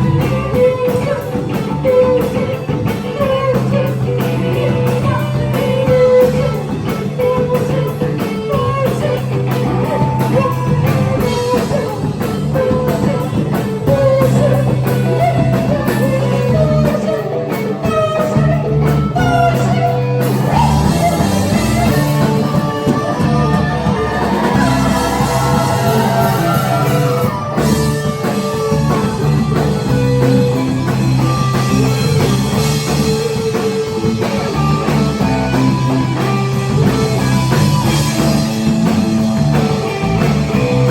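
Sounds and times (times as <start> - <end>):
bass guitar: 0.0 - 40.9
drum kit: 0.0 - 40.9
electric guitars: 0.0 - 40.9
rock band playing live: 0.0 - 40.9.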